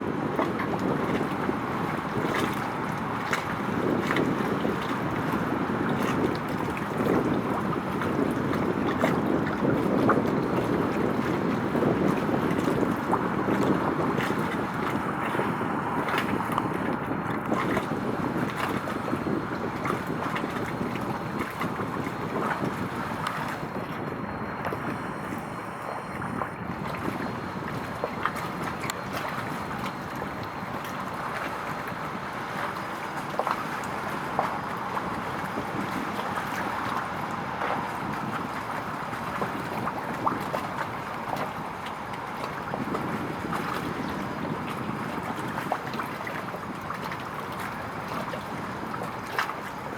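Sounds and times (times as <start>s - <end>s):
water noise: 0.0s - 49.9s
wind buffeting microphone: 0.0s - 49.9s.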